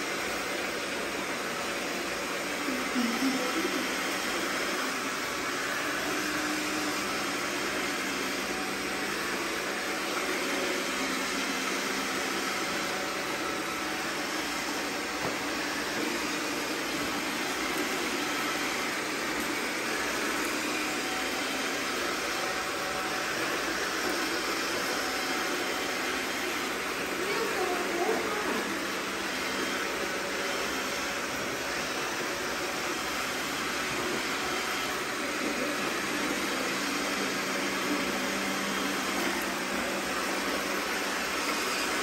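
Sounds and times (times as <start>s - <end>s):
robot vacuums whirring: 0.0s - 42.0s.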